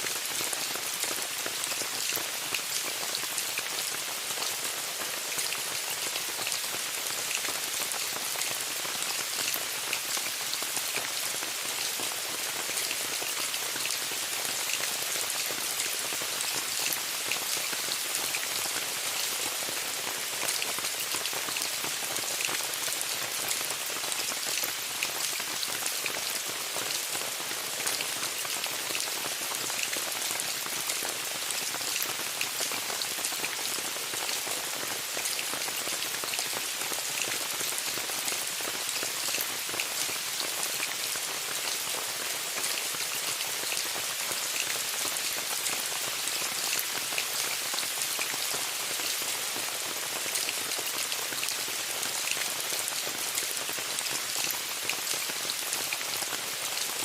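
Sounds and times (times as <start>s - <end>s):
rain falling on a tent: 0.0s - 57.0s.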